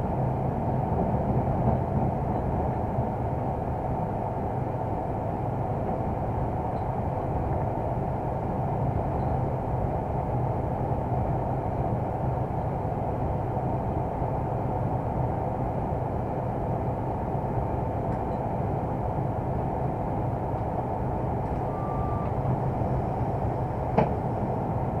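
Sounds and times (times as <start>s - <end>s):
diesel engine drone: 0.0s - 25.0s
wheel and rail rumble: 0.0s - 25.0s.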